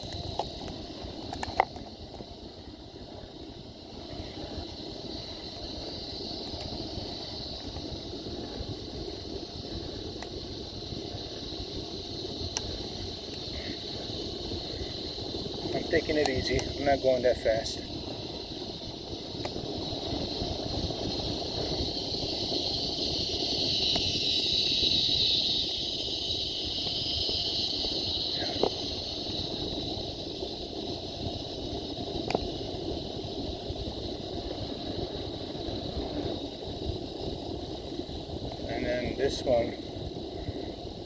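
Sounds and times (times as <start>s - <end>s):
bicycle rolling on trail: 0.0s - 41.0s
high steady hiss: 0.0s - 41.0s
wind rumble: 0.0s - 41.0s.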